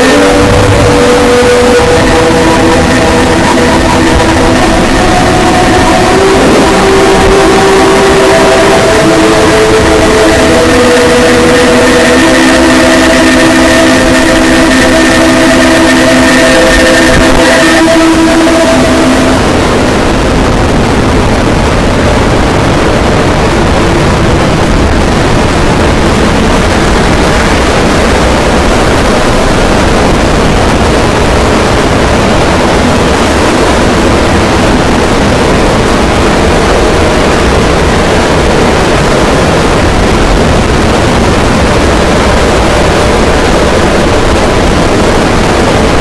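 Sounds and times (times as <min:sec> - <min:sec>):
harsh noise music: 0:00.0 - 0:46.0.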